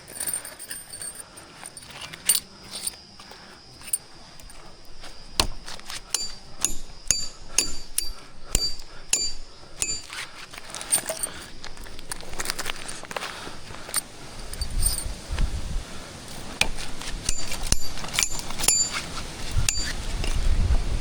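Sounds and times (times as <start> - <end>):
scuffing and rustling: 0.0 - 7.6, 8.2 - 21.0
sharp metallic clinks: 0.0 - 15.4, 16.3 - 20.6.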